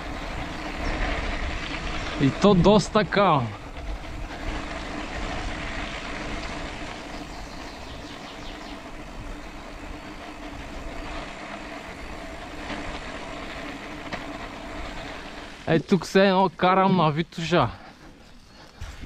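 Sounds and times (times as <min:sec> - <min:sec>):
bicycle drivetrain under load: 0:00.0 - 0:19.0
bicycle tyres rolling through mud: 0:00.0 - 0:19.0.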